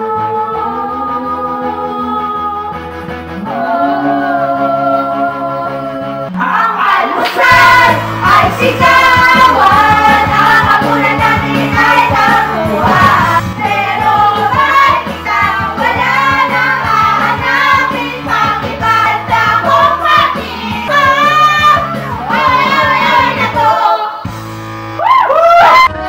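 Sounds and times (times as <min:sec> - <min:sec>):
group singing karaoke: 0:00.0 - 0:25.0
karaoke backing track: 0:00.0 - 0:26.0.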